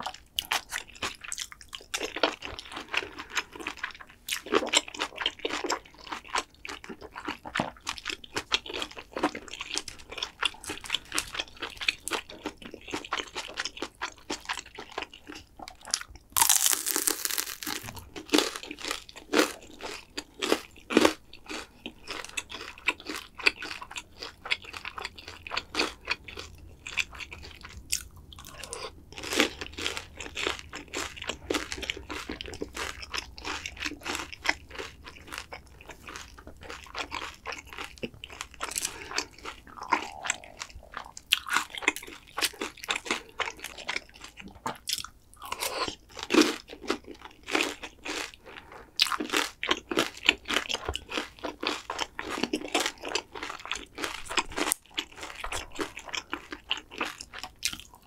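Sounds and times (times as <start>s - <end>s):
crunching fried pork: 0.0s - 58.0s.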